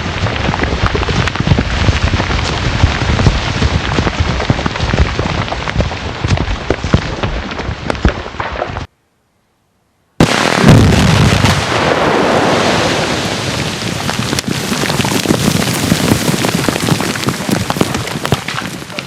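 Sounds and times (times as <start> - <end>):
broken rock and dirt falling: 0.0 - 8.9, 10.2 - 19.0.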